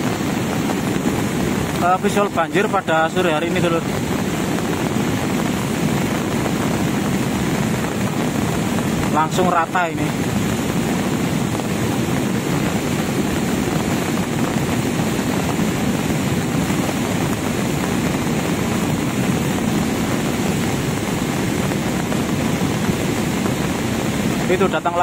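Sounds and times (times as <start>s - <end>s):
muddy water and debris rushing: 0.0s - 25.0s.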